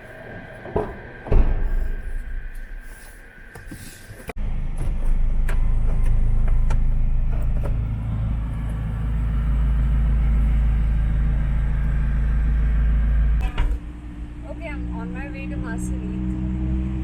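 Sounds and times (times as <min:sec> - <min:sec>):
car rumbling in motion: 0:00.0 - 0:17.0.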